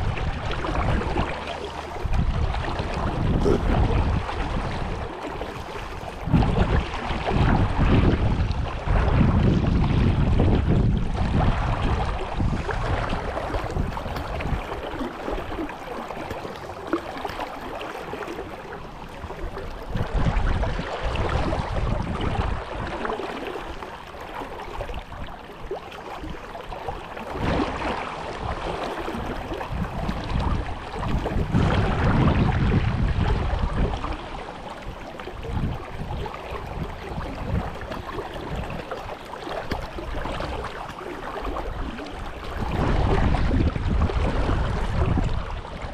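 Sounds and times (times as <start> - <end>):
brook water flowing: 0.0 - 45.9
wind buffeting microphone: 0.0 - 45.9.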